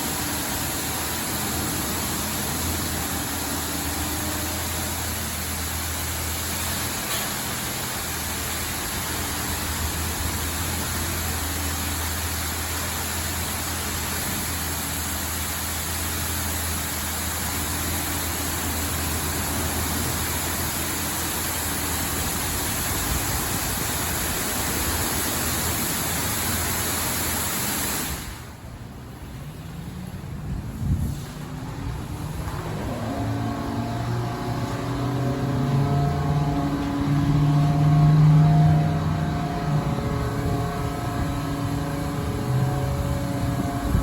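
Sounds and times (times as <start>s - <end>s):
low machine hum: 0.0s - 27.3s, 32.0s - 44.0s
car wash spray rushing: 0.0s - 44.0s.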